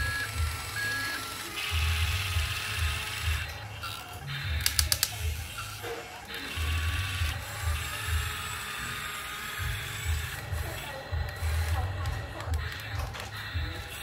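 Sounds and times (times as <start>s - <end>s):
ratchet-like clicking: 0.0s - 13.2s
toy electric motors whirring: 0.0s - 14.0s.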